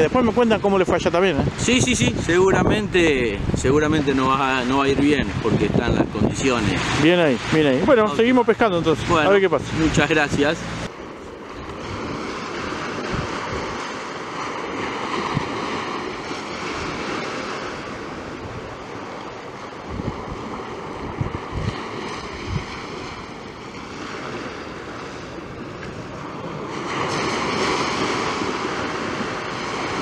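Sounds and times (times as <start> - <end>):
surf breaking on sandy beach: 0.0 - 30.0
wind buffeting microphone: 0.0 - 30.0.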